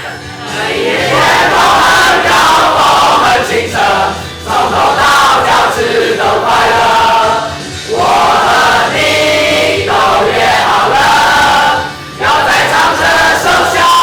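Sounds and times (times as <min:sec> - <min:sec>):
voices singing together: 0:00.0 - 0:14.0.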